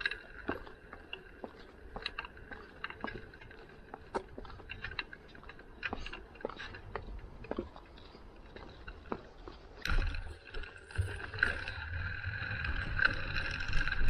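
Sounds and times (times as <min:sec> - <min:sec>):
low rumble of bicycle ride: 0:00.0 - 0:14.0.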